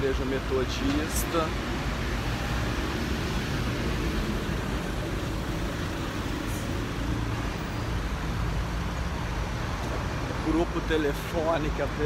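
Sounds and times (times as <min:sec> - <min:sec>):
road noise: 0:00.0 - 0:12.0
vehicle engines rumbling: 0:00.0 - 0:12.0.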